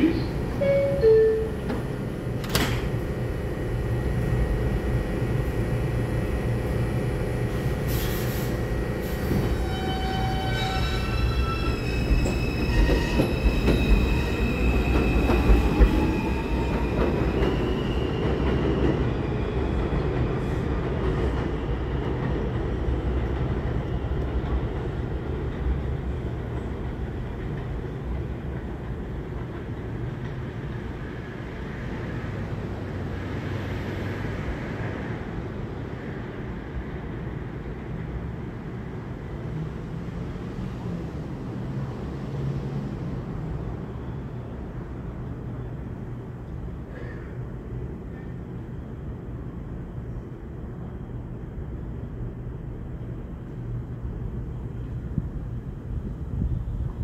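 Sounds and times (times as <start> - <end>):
wheels rumbling and clicking on rail: 0.0 - 57.0.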